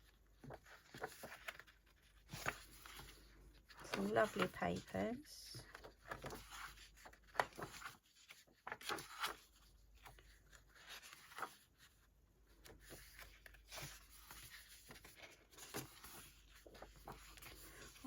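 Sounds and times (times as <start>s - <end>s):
paper rustling: 0.0s - 18.0s.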